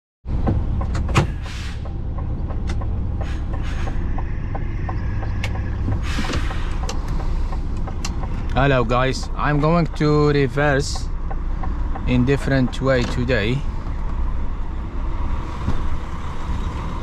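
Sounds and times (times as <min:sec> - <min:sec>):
diesel engine rumble: 0:00.2 - 0:17.0
turn indicator ticking: 0:00.3 - 0:14.9.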